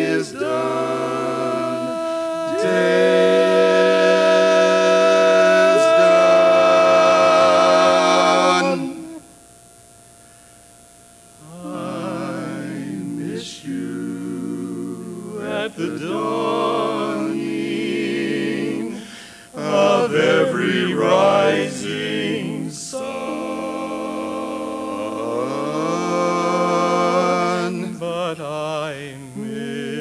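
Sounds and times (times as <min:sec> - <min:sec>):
men singing a cappella harmony: 0:00.0 - 0:09.3, 0:11.4 - 0:30.0.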